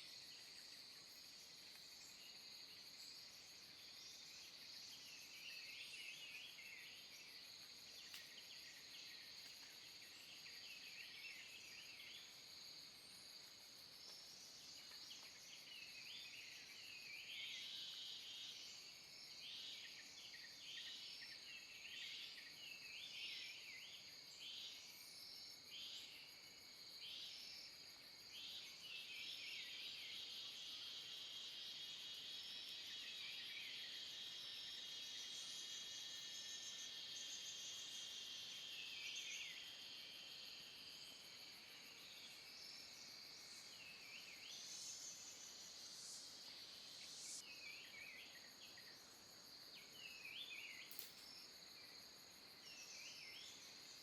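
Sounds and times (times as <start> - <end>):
insect chirping calls: 0.0 - 54.0
insects buzzing: 0.0 - 54.0.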